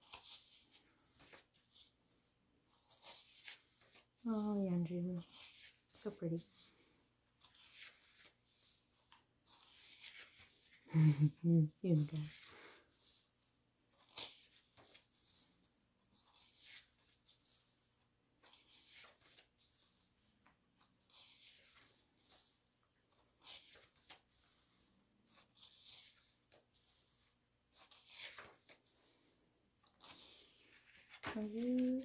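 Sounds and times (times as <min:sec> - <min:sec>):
book pages turning: 0:00.0 - 0:04.6, 0:05.2 - 0:11.4, 0:12.0 - 0:32.0.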